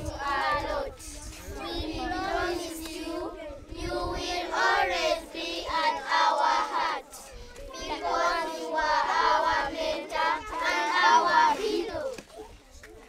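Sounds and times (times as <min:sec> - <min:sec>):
children singing together: 0:01.5 - 0:12.1.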